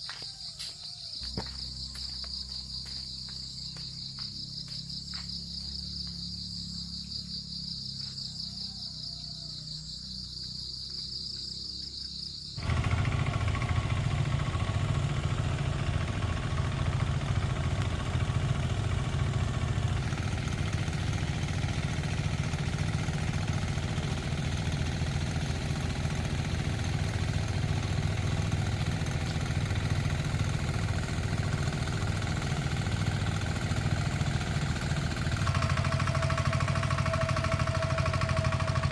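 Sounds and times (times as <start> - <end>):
insects chirring: 0.0 - 38.9
engine running steadily: 1.2 - 8.2, 12.5 - 38.9.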